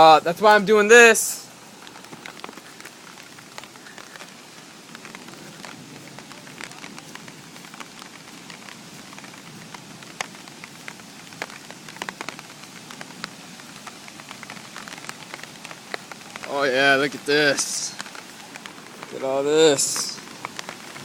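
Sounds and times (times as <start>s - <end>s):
rain falling: 0.0s - 21.0s
raindrops striking an umbrella: 0.0s - 21.0s.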